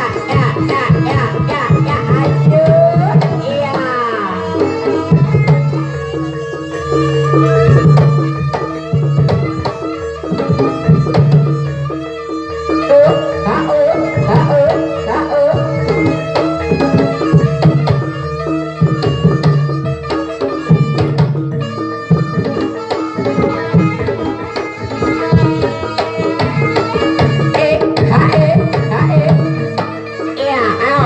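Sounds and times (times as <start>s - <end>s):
hand drums playing busy rhythm: 0.0s - 31.0s
gamelan tones: 2.2s - 31.0s.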